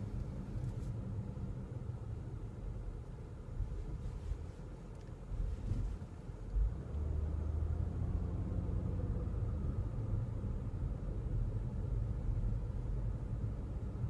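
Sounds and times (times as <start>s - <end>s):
car cabin road and engine rumble: 0.0s - 14.0s.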